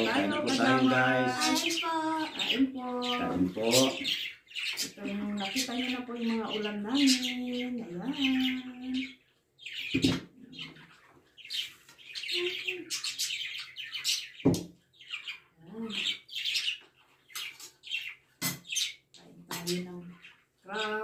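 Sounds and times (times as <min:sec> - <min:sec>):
pet birds chirping: 0:00.0 - 0:21.0.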